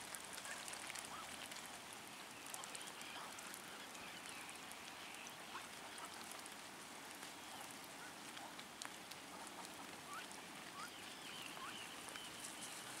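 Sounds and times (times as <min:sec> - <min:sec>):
ducks dabbling clicks: 0:00.0 - 0:13.0
steady hiss: 0:00.0 - 0:13.0
ducks soft rising chirps: 0:00.2 - 0:13.0.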